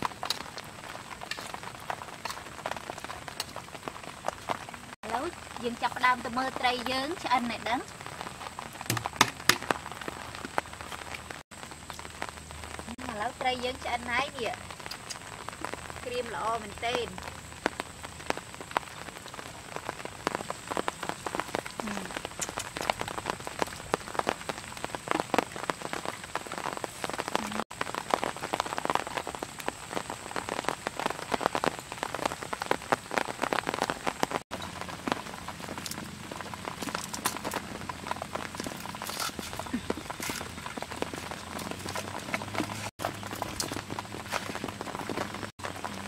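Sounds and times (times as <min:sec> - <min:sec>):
fish sizzling over embers: 0:00.0 - 0:46.0.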